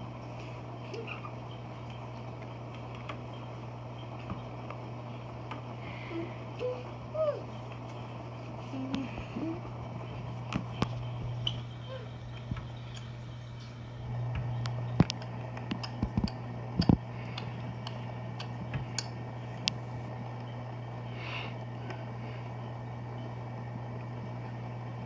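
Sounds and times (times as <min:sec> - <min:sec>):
aquarium pump humming: 0:00.0 - 0:25.0.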